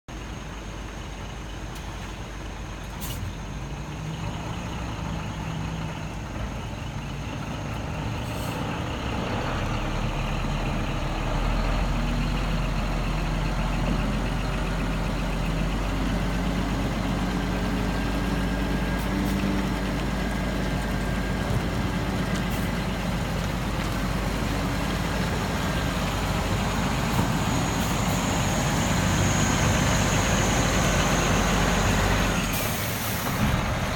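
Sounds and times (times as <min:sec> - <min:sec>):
truck engine running: 0:00.1 - 0:33.9.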